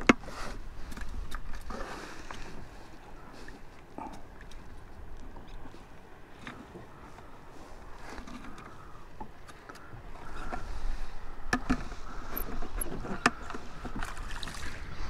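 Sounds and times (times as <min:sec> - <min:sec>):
water lapping against hull: 0:00.0 - 0:15.0.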